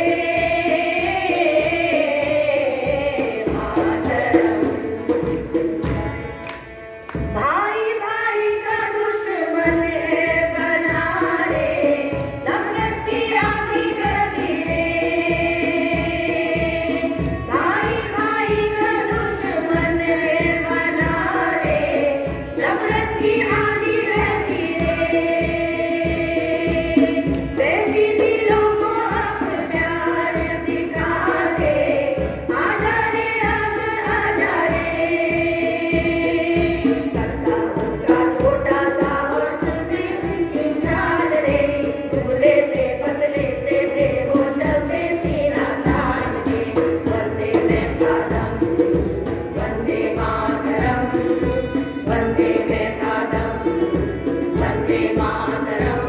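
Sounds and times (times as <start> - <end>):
women singing together: 0.0 - 5.8, 7.2 - 56.0
steady drum beat: 0.0 - 6.4, 9.5 - 56.0.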